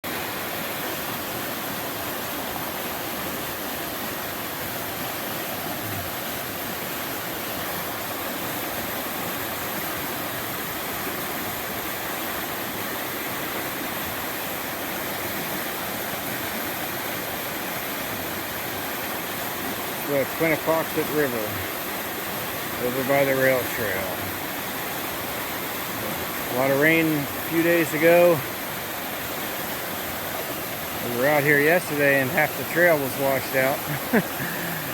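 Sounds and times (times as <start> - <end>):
river rushing over rocks: 0.0 - 34.9.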